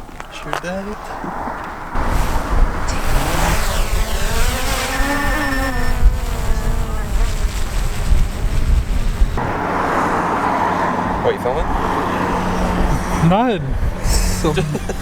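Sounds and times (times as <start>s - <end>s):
drone propellers buzzing: 2.0s - 15.0s.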